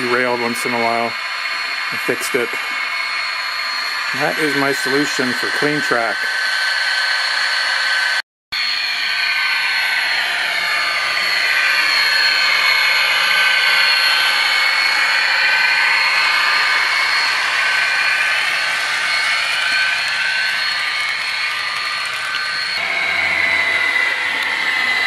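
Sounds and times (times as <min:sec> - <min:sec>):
model train motor whine: 0:00.0 - 0:25.0.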